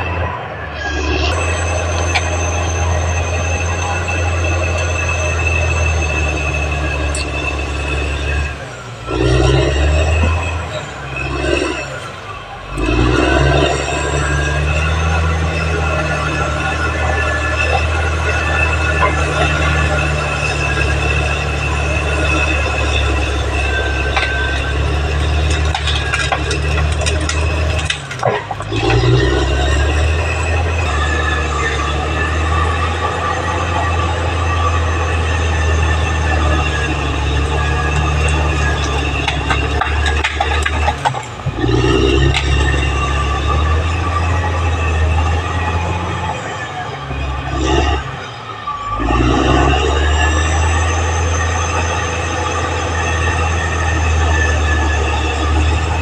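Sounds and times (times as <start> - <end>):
bulldozer diesel engine running: 0.0 - 56.0
steel tracks squealing: 0.0 - 56.0.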